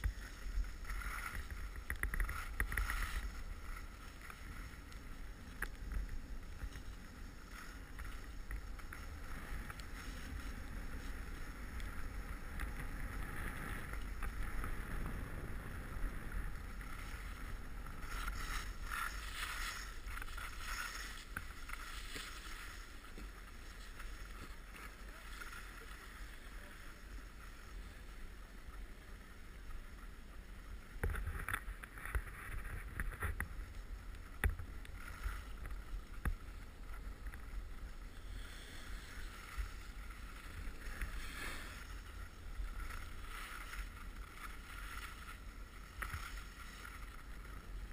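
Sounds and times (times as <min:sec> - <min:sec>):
skis scraping over snow: 0:00.0 - 0:47.9
wind rumbling on microphone: 0:00.0 - 0:47.9.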